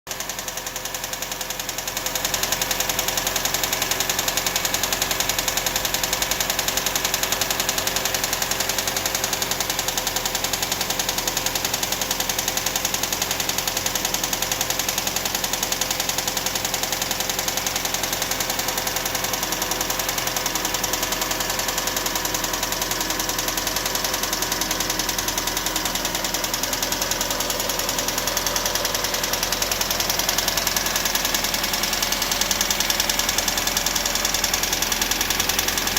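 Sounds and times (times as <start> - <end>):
car engine running: 0.1 - 35.9
fast even engine ticking: 0.1 - 35.9.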